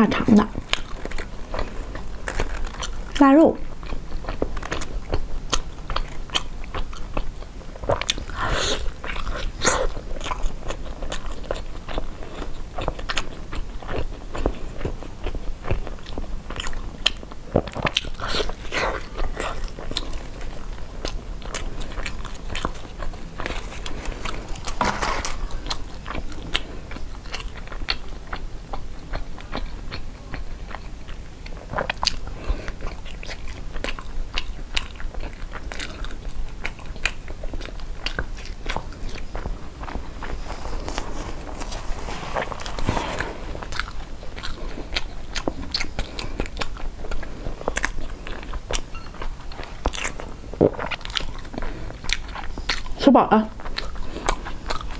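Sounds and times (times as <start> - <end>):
biting and chewing food: 0.2 - 54.9.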